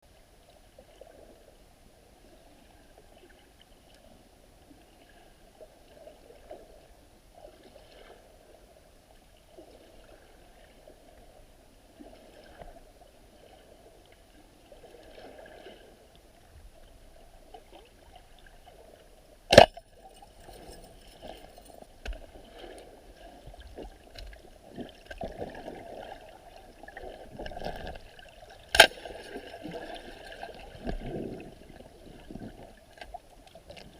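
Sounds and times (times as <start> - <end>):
underwater water and bubbles: 0.0 - 33.9.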